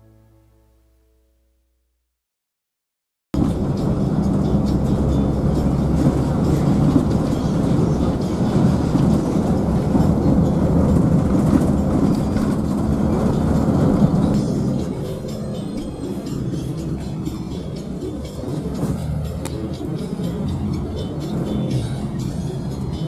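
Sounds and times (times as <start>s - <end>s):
bus diesel engine drone: 3.4s - 23.0s.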